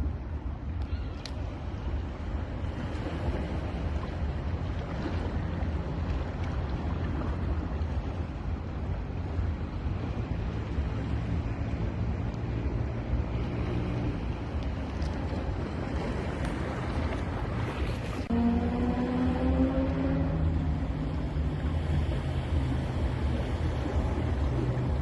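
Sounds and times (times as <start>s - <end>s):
ocean surf washing onto beach: 0.0s - 25.0s
wind rumble on microphone: 0.0s - 25.0s.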